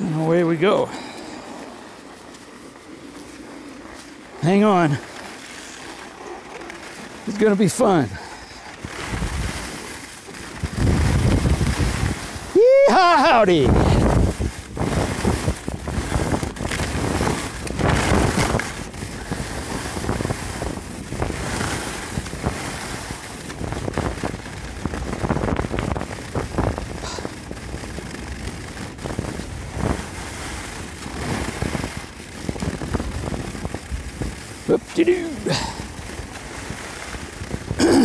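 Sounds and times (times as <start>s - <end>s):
skis scraping on snow: 0.0s - 38.0s
wind rushing over microphone: 7.2s - 38.0s.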